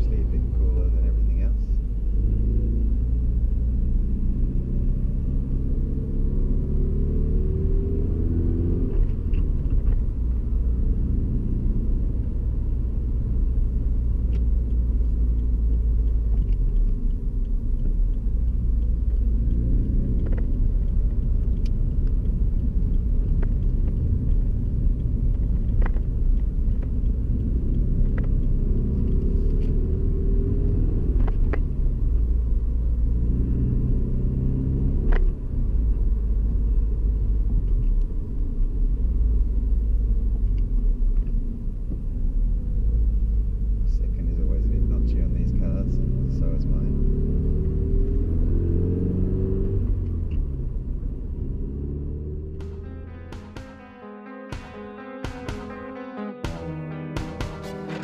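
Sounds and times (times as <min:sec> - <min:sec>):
car engine accelerating: 0:00.0 - 0:58.0
road rumble: 0:00.0 - 0:58.0.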